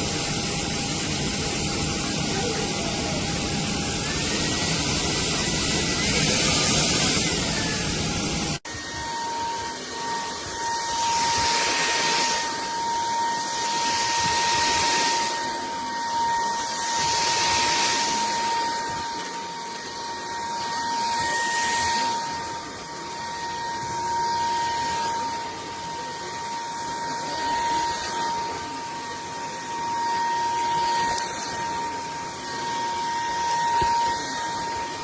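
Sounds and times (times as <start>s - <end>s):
stick vacuum cleaner running: 0.0s - 35.0s.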